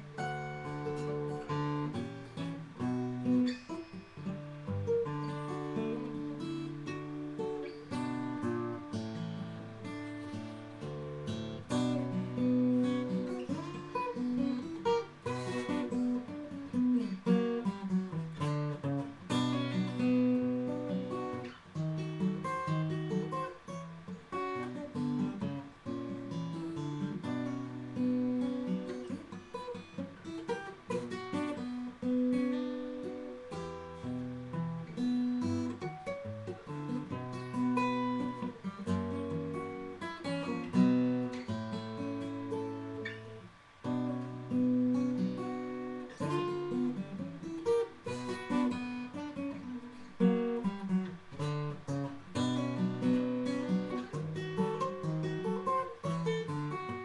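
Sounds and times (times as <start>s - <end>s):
fingerpicked acoustic guitar ragtime: 0.0s - 57.0s.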